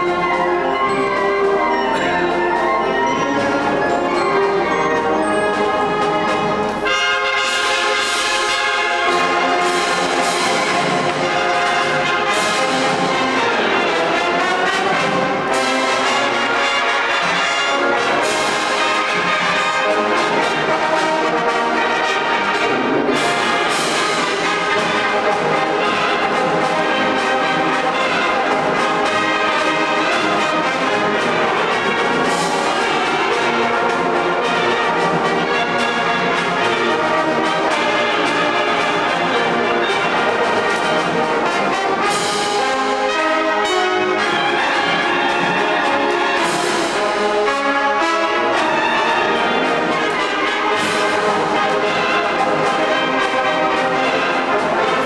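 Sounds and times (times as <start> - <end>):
percussion hits: 0.0 - 55.0
wind band playing a march: 0.0 - 55.0.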